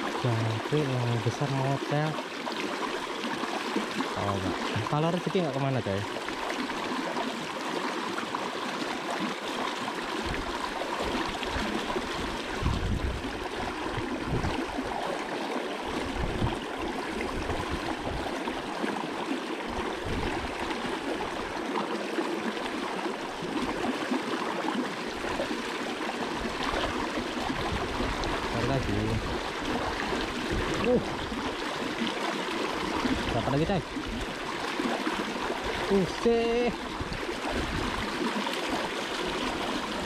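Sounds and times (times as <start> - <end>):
river water rushing and splashing: 0.0 - 40.0.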